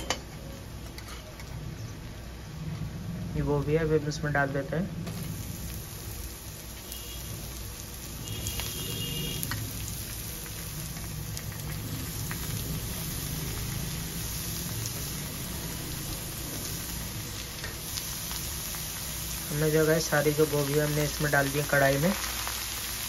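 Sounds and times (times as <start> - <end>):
cauliflower frying in hot oil: 0.3 - 23.0.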